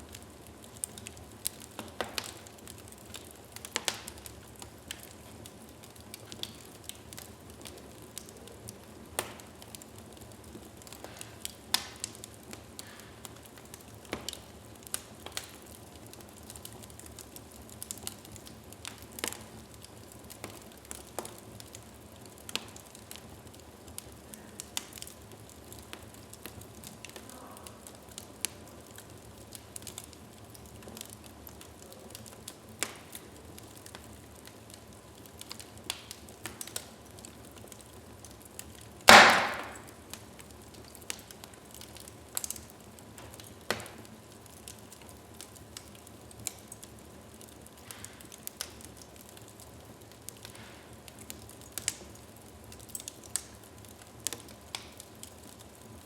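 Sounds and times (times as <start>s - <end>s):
loud fire crack: 0.0s - 56.0s
wood fire crackling: 0.0s - 56.0s.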